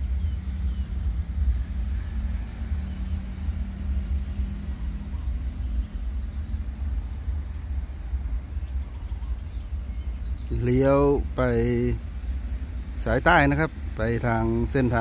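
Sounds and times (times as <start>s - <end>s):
faint hum: 0.0s - 15.0s
train wagons rumbling on track: 0.0s - 15.0s.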